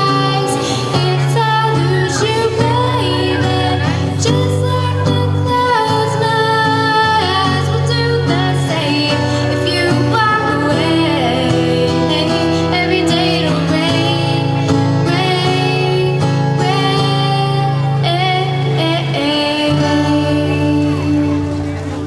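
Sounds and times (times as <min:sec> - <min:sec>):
woman singing a slow ballad: 0:00.0 - 0:22.0.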